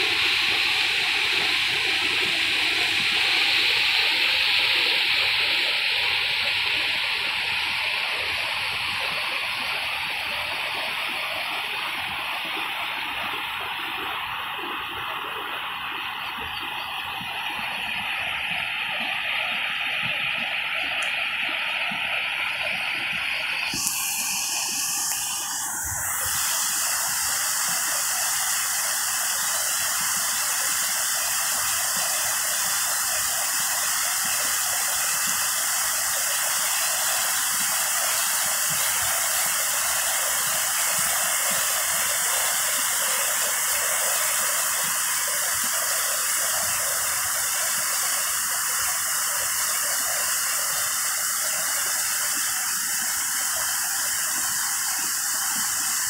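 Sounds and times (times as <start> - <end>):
floodwater rushing over rocks: 8.2 - 56.0.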